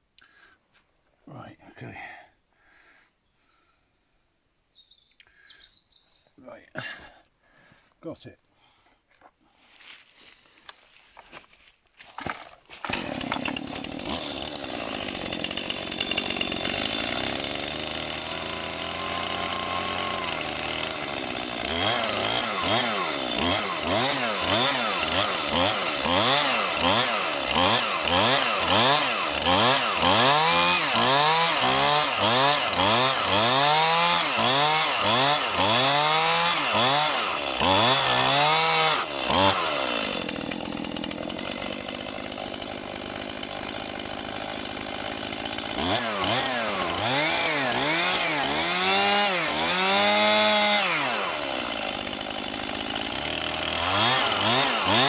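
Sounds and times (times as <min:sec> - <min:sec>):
chainsaw cutting log: 0:10.7 - 0:55.0.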